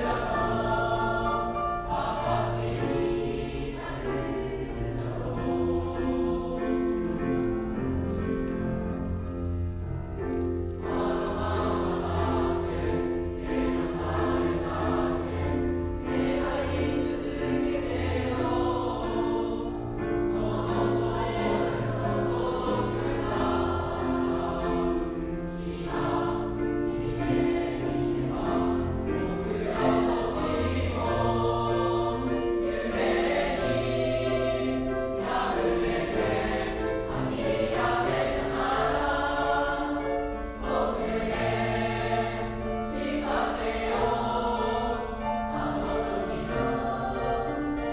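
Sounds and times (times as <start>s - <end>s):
choir singing sustained chords: 0.0s - 47.9s.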